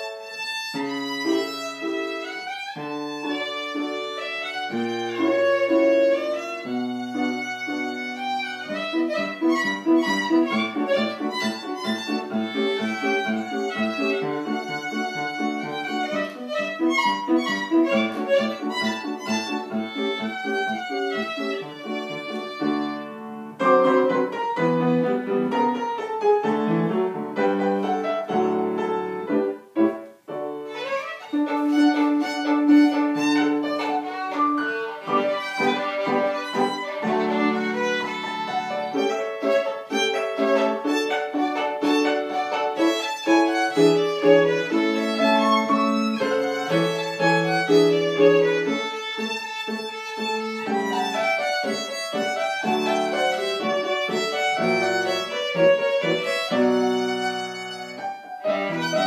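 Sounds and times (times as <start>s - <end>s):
solo violin playing: 0.0s - 29.5s, 30.2s - 59.0s
piano accompaniment: 0.0s - 59.0s.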